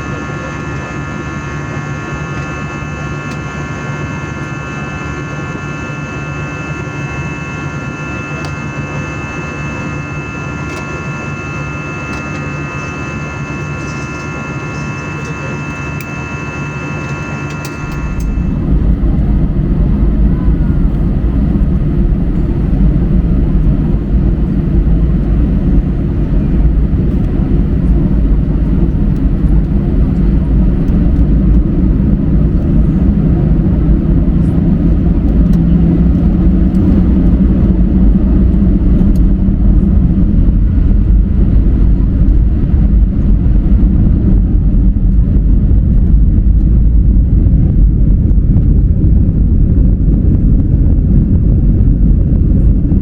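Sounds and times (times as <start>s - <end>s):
airliner engines rumbling: 0.0s - 53.0s.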